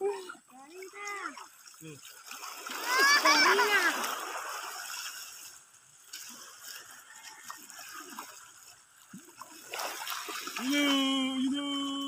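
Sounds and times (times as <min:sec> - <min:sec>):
sea water lapping at shoreline: 0:00.0 - 0:12.0
small splashes: 0:00.0 - 0:12.0.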